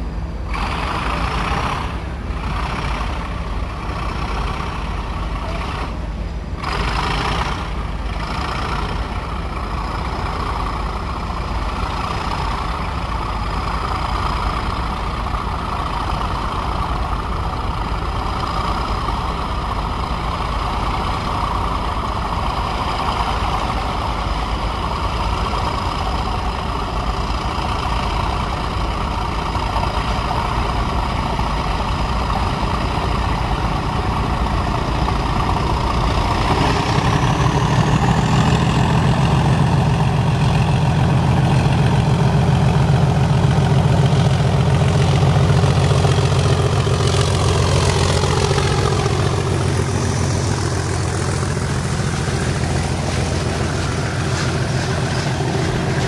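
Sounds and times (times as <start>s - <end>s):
diesel locomotive engine drone: 0.0s - 56.0s
wagons rolling past: 8.4s - 56.0s.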